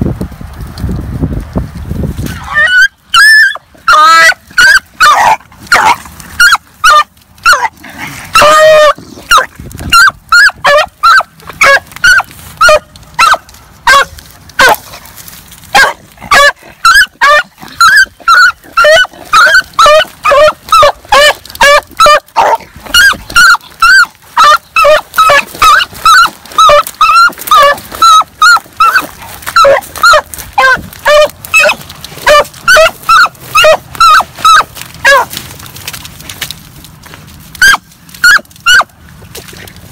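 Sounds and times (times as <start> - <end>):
hound baying: 2.4 - 15.1, 15.7 - 36.3, 37.6 - 39.0.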